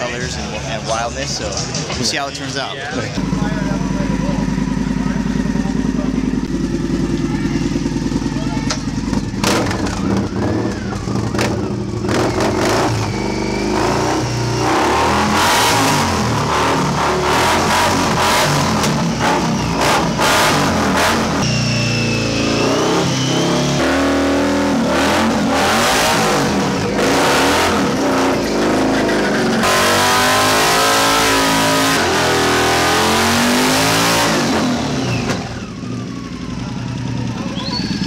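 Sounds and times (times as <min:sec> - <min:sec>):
motorcycle engine revving: 0:03.0 - 0:38.0.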